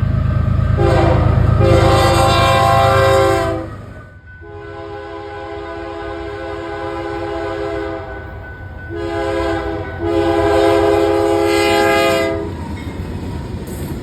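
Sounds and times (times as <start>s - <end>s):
low rumble of train: 0.0s - 14.0s
train air horn chord: 0.7s - 12.6s.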